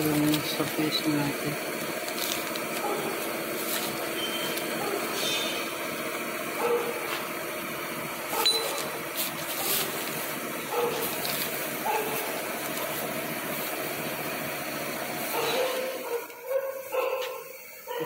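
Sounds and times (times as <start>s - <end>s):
mechanical running noise: 0.0s - 18.0s.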